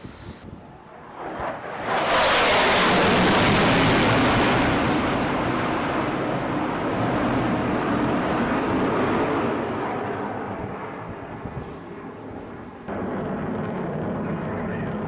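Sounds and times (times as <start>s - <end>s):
jet aircraft roar: 0.0s - 15.0s.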